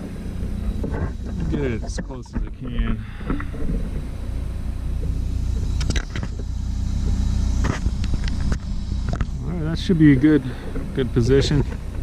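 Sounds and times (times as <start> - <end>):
excavator diesel engine rumbling: 0.0 - 12.0.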